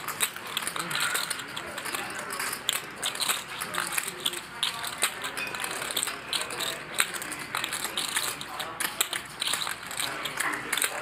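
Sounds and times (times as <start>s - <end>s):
murmured talk: 0.0s - 11.0s
poker chips clicking: 0.0s - 11.0s.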